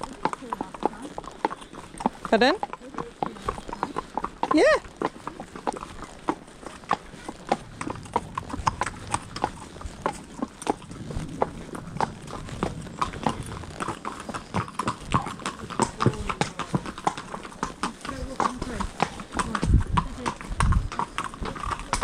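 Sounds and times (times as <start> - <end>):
hooves clip-clopping on hard road: 0.0 - 22.0.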